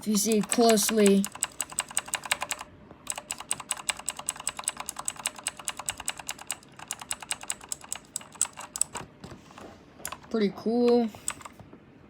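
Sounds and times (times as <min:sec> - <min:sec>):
mechanical keyboard typing: 0:00.0 - 0:09.1, 0:10.0 - 0:11.6.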